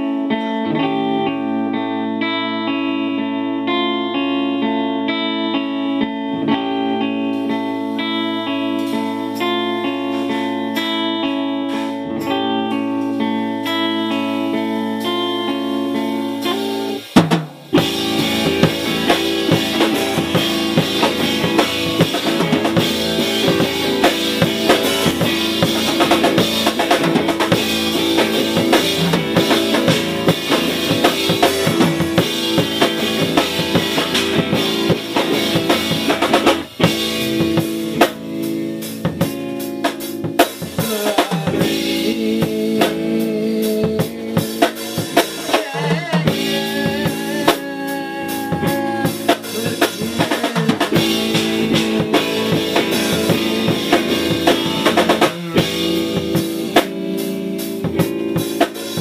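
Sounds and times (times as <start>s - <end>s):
instrumental background music: 0.0s - 59.0s
drum kit beat: 6.6s - 59.0s.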